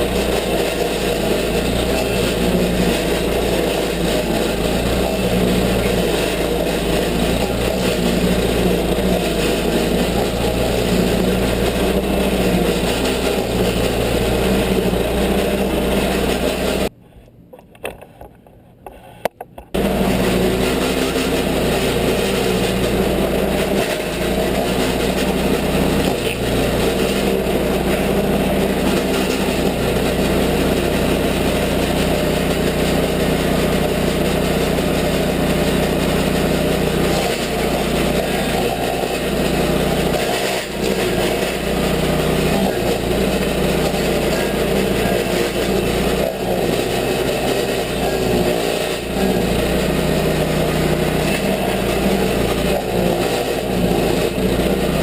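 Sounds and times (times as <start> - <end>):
cutter wheel grinding stump: 0.0 - 16.9, 19.8 - 55.0
gasoline engine running: 0.0 - 16.9, 19.8 - 55.0.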